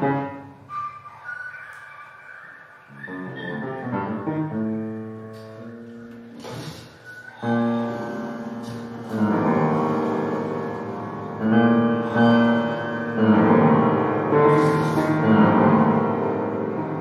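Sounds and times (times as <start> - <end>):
electronic music: 0.0 - 17.0
upright piano chords: 0.0 - 17.0.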